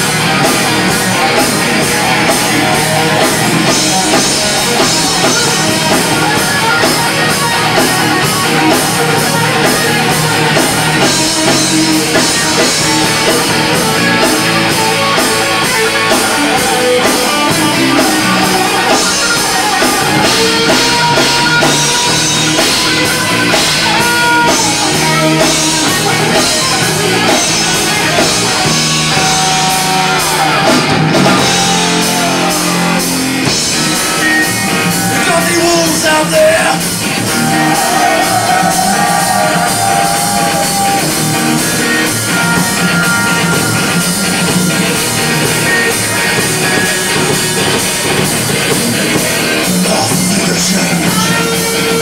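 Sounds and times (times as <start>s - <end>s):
bass guitar: 0.0s - 52.0s
distorted electric guitars: 0.0s - 52.0s
drum kit: 0.0s - 52.0s.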